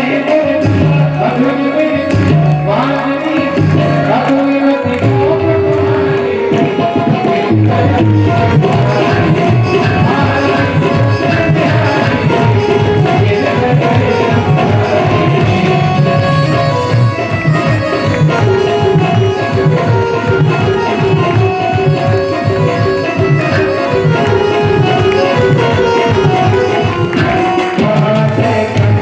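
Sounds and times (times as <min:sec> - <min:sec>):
tabla drumming: 0:00.0 - 0:29.0
held melodic notes: 0:01.0 - 0:29.0.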